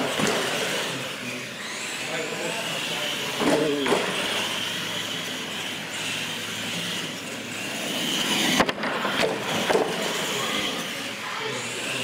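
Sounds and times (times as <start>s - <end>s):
toy truck electric motors whining: 0.0s - 12.0s.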